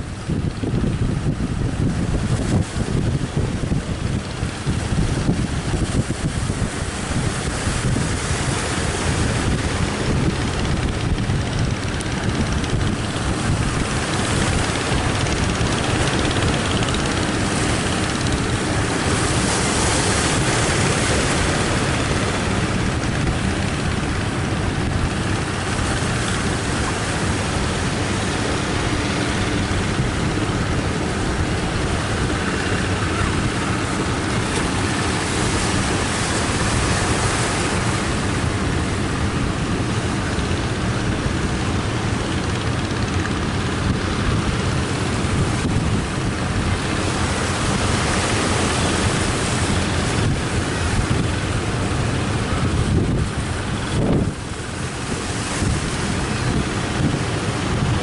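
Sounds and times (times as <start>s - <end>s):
strong wind on microphone: 0.0s - 58.0s
surf breaking on beach: 0.0s - 58.0s.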